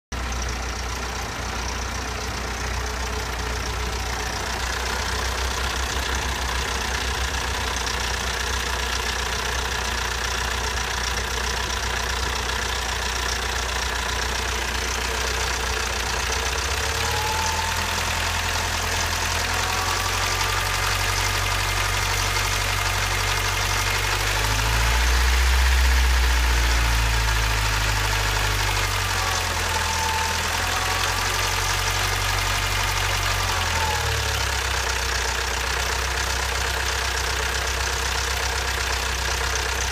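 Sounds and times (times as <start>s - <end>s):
engine running with valve clatter: 0.1s - 39.9s.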